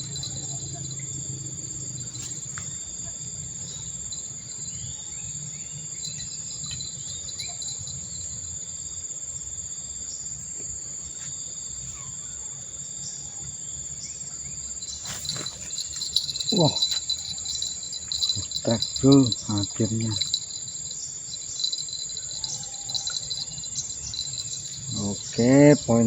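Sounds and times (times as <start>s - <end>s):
shrill insect chorus: 0.0s - 26.0s.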